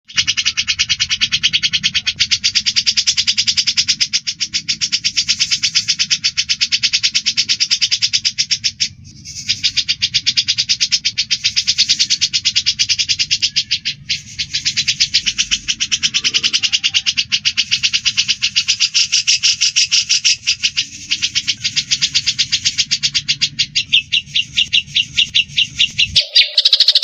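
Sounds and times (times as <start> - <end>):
birds chattering rapidly: 0.0 - 27.0.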